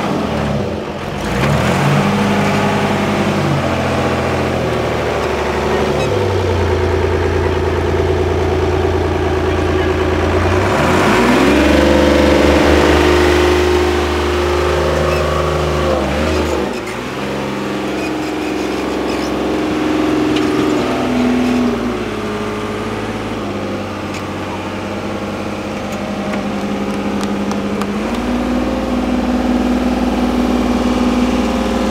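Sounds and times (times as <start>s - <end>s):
truck engine working under load: 0.0s - 31.9s.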